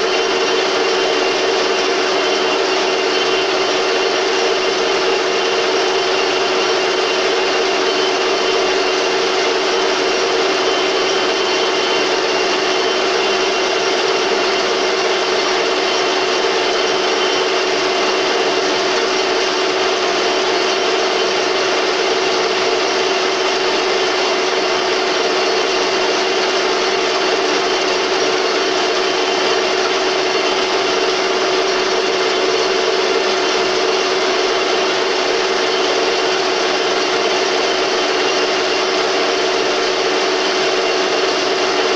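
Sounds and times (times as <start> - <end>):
metal lathe humming and whining: 0.0 - 41.9.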